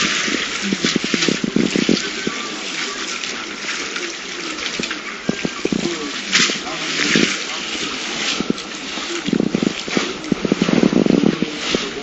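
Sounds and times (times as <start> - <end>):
water rushing and sloshing: 0.0 - 12.0.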